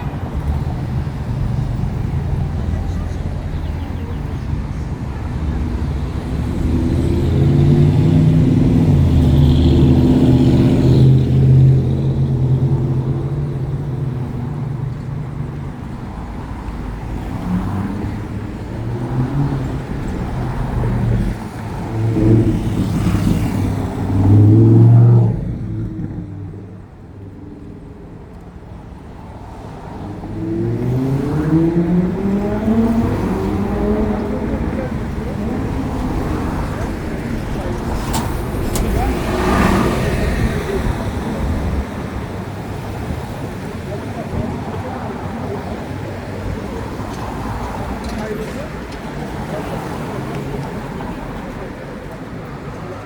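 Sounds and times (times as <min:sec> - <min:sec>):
car engines running: 0:00.0 - 0:53.0
vehicle accelerating: 0:00.0 - 0:53.0.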